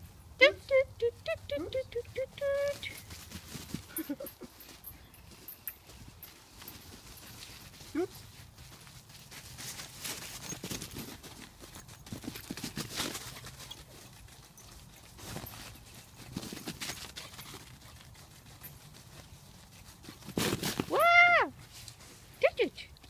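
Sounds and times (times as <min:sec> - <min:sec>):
paws scuffing on artificial turf: 0:02.4 - 0:22.6.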